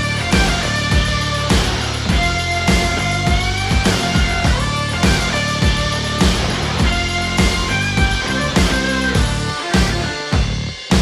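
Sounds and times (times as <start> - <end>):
upbeat rock music with guitar: 0.0 - 11.0.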